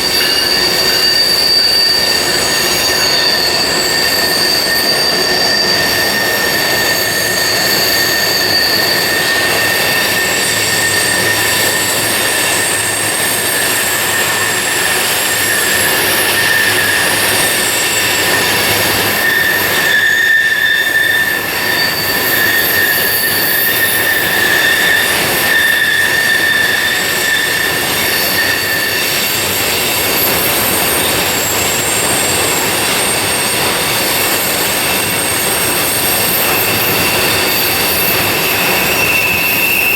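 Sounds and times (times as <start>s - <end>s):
rumble of train cars: 0.0s - 39.9s
train wheel flanges squealing: 0.0s - 39.9s.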